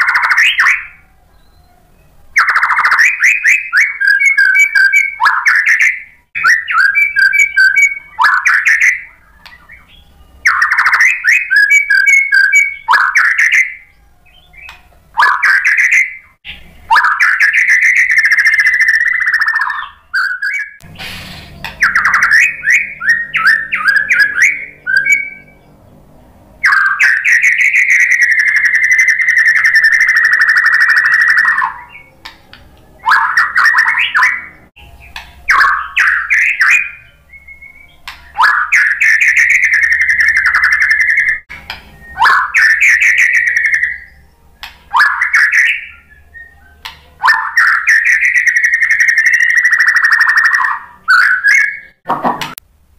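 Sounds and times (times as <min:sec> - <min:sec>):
bird singing chirps and whistles: 0:00.0 - 0:25.8, 0:26.6 - 0:52.0
long even bird trill: 0:00.0 - 0:52.0.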